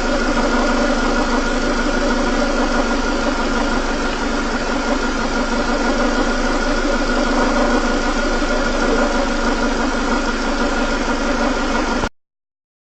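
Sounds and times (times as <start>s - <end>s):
engine idling: 0.0s - 12.1s.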